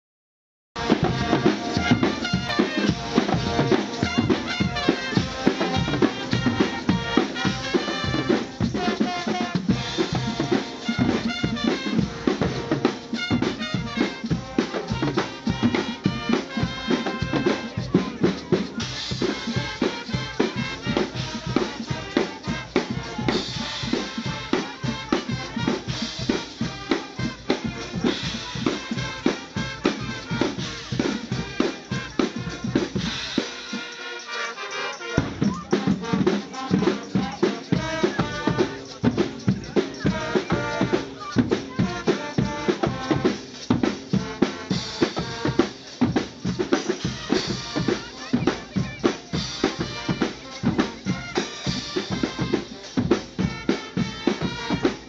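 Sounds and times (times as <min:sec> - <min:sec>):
drum kit beat: 0:00.8 - 0:55.0
horns playing tune: 0:00.8 - 0:55.0.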